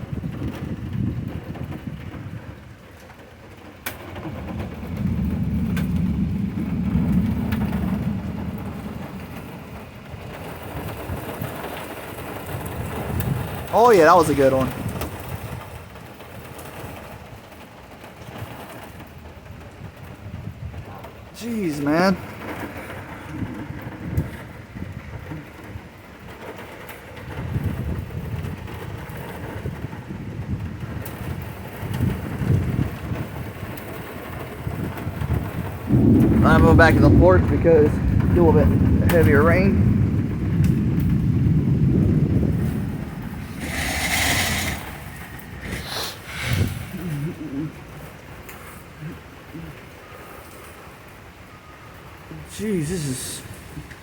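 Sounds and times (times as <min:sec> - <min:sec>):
rain falling: 0:00.0 - 0:54.0
thunder crack and rumble: 0:00.0 - 0:54.0.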